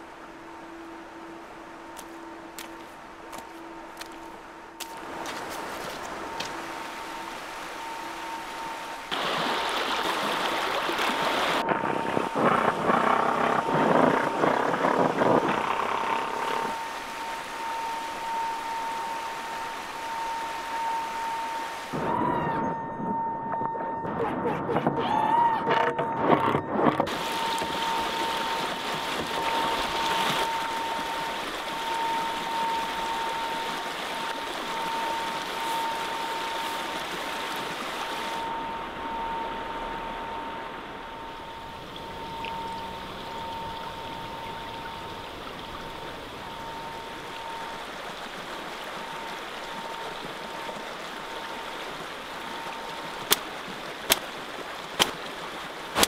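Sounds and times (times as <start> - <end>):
creek water over rocks: 0.0 - 22.1, 25.6 - 56.0
faint steady tone: 0.0 - 54.8.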